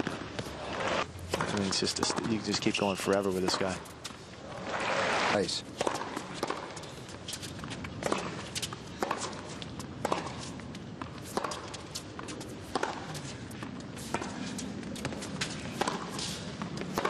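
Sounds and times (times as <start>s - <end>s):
racquets striking ball: 0.0s - 3.8s, 5.7s - 6.9s, 8.0s - 17.0s.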